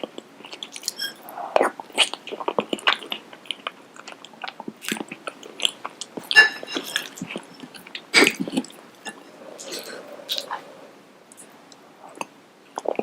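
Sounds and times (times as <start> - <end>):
person chewing crunchy food: 0.0 - 10.7.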